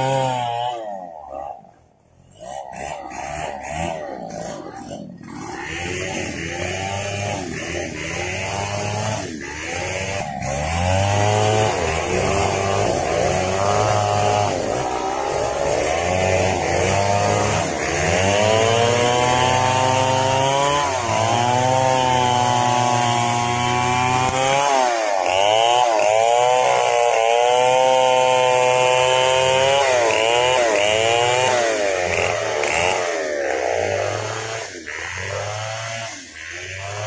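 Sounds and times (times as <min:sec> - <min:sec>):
chainsaw cutting log: 0:00.0 - 0:37.0.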